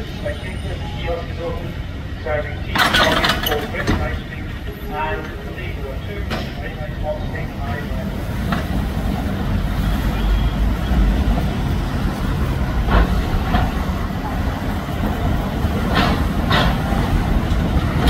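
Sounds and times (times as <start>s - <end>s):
diesel locomotive engine: 0.0s - 18.0s
wheels clicking over rail joints: 2.7s - 10.2s, 10.9s - 18.0s.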